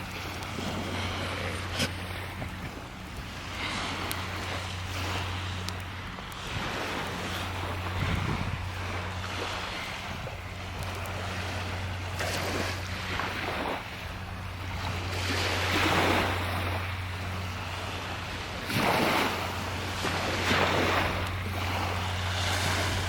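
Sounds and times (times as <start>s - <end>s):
small waves on sandy beach: 0.0s - 23.0s.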